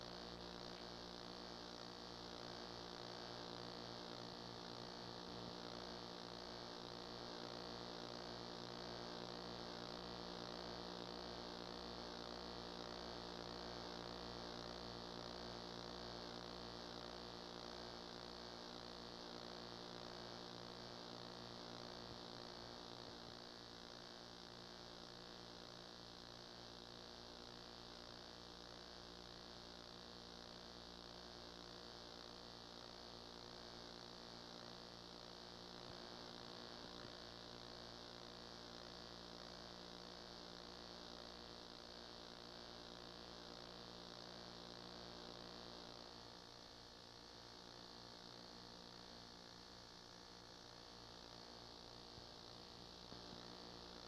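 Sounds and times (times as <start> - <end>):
faint mains hum with hiss: 0.0 - 54.0.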